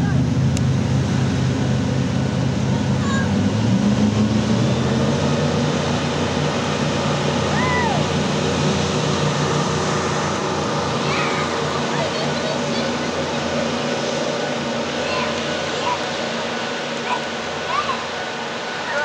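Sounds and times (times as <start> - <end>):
boat engine running at speed: 0.0 - 19.0
water jet rushing and spray: 0.8 - 19.0.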